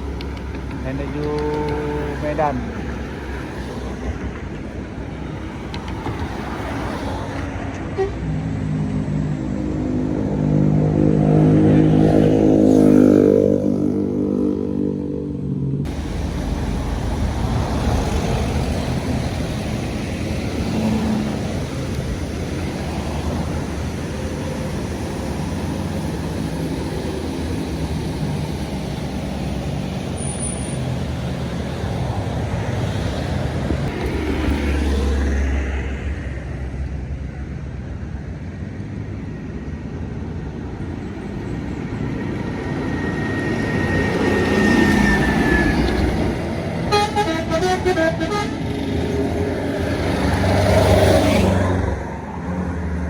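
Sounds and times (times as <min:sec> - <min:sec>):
bus engine droning past: 0:00.0 - 0:53.0
traffic and road noise: 0:00.0 - 0:53.0.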